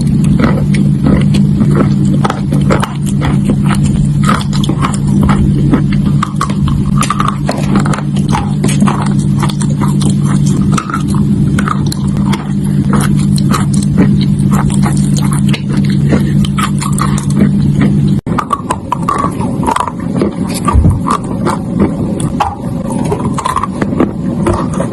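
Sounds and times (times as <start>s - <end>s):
chalk crunching between teeth: 0.0s - 24.9s
steady low hum: 0.0s - 24.9s.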